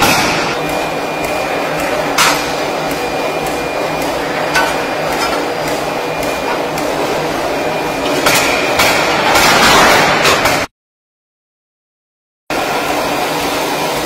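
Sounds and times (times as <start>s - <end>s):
machinery hum and hiss: 0.0s - 10.7s, 12.5s - 14.0s.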